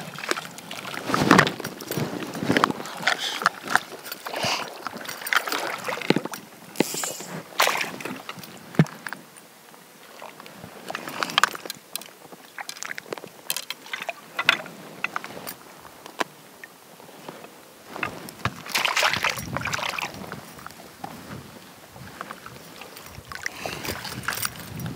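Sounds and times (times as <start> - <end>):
water sloshing and splashing: 0.0 - 9.3, 10.0 - 24.9
knocks and rustles of net handling: 0.0 - 9.4, 10.6 - 16.4, 17.0 - 24.9.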